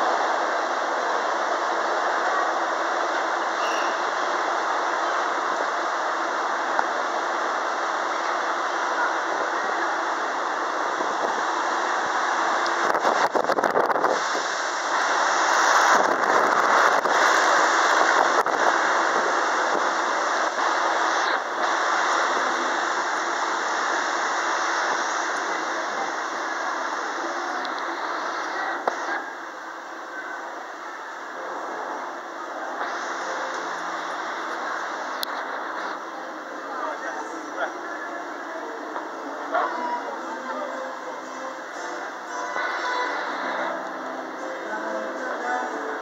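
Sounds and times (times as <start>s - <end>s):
subway train rushing: 0.0s - 46.0s.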